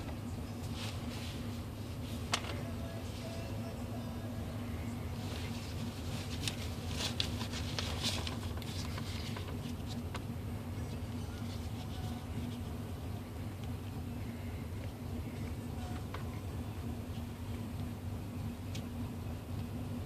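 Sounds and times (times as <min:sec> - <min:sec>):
low hum inside truck cab: 0:00.0 - 0:20.0.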